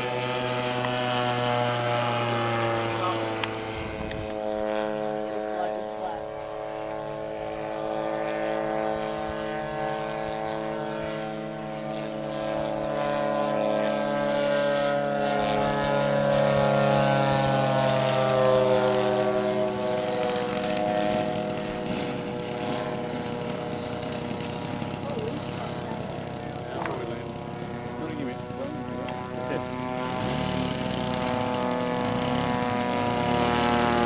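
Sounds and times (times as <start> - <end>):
model airplane engine droning: 0.0 - 34.0.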